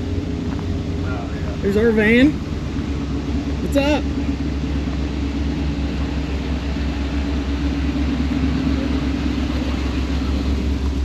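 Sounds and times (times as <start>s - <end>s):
van engines idling: 0.0s - 11.0s.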